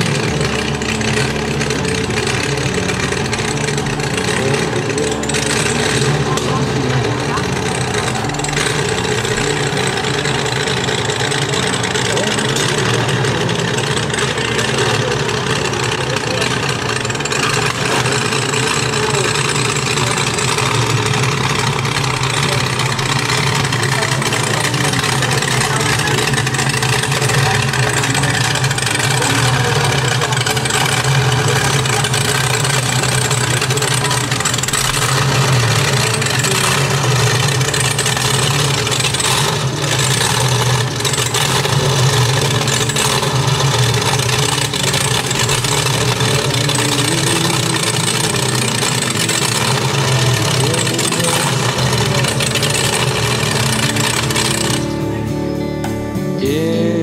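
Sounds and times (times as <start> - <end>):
boat engine idling: 0.0 - 57.0.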